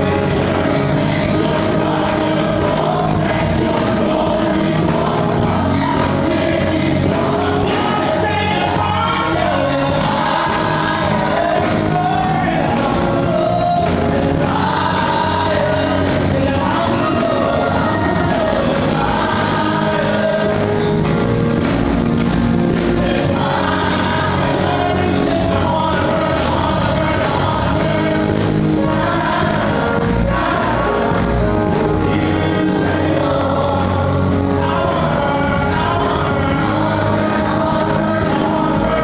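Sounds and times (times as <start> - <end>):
church band playing: 0.0 - 39.0
group singing gospel: 0.0 - 39.0.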